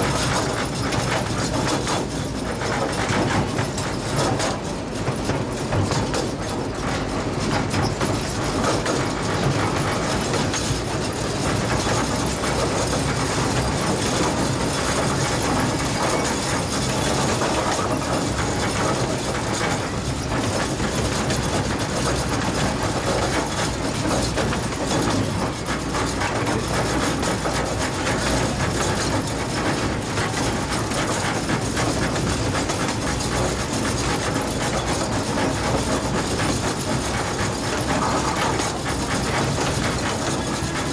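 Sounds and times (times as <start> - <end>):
train cars rolling on rails: 0.0 - 40.9.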